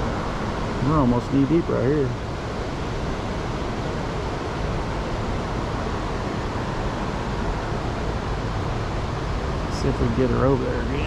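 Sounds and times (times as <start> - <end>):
fast creek rushing: 0.0 - 11.0.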